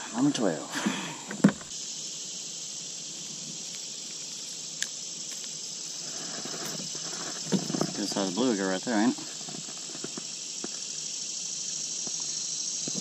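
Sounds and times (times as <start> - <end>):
insects chirping in trees: 0.0 - 13.0.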